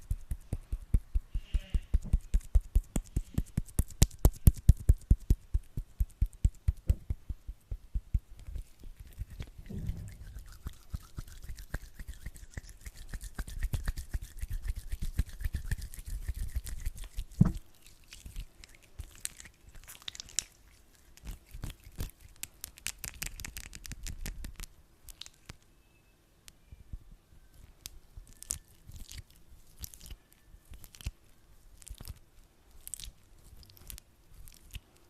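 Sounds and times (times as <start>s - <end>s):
hands rubbing sticky gel: 0.0s - 25.6s, 27.6s - 34.9s.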